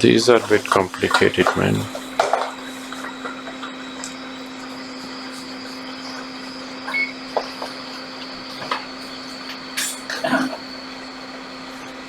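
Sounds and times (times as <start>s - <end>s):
high whine: 0.0s - 12.0s
hot air blower hissing: 0.0s - 12.0s.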